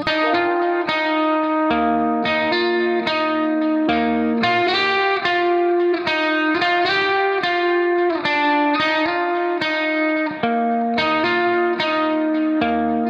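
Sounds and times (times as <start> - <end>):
electric guitar chords: 0.0 - 13.0.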